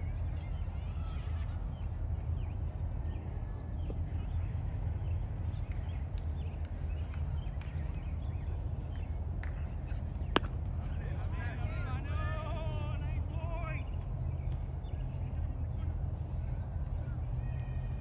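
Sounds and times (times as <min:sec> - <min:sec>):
low rumble on microphone: 0:00.0 - 0:18.0.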